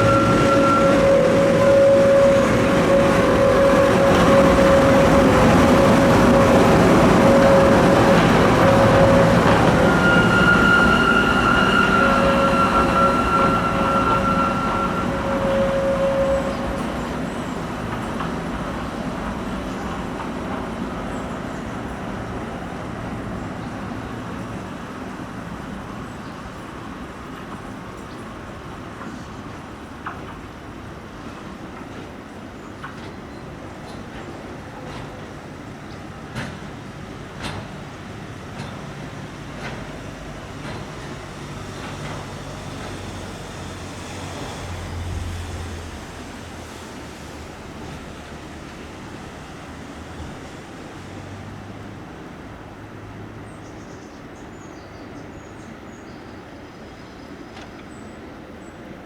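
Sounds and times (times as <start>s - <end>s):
tram whining tones: 0.0s - 53.6s
tram rumbling past: 0.0s - 59.0s.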